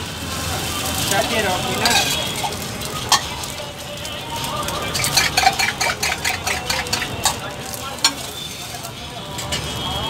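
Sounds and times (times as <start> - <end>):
flatbread sizzling in oil: 0.0 - 10.0.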